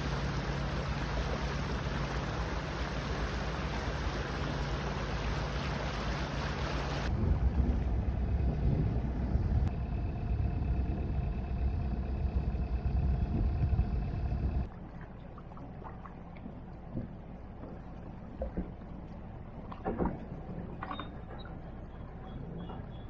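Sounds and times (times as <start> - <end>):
boat engine running: 0.0 - 23.0
wind rumbling on microphone: 0.0 - 23.0.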